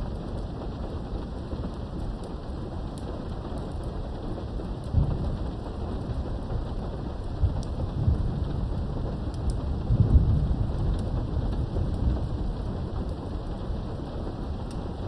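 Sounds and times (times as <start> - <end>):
low rumbles of thunder: 0.0 - 15.0
rain behind a window: 0.0 - 15.0.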